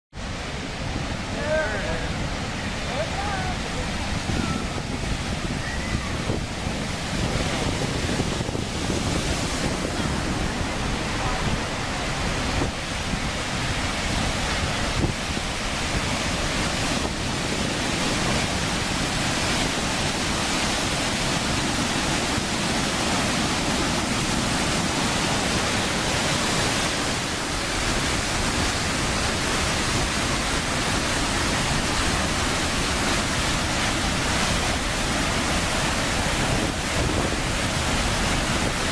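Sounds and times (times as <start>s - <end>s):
water rushing from dam gates: 0.2s - 38.9s.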